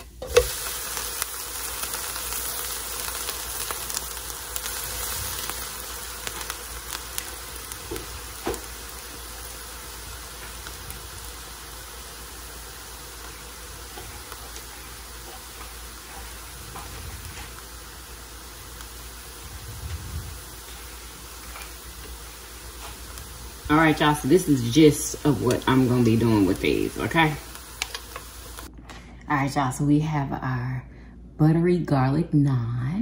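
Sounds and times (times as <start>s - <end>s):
naan sizzling on a grill: 0.2s - 28.7s.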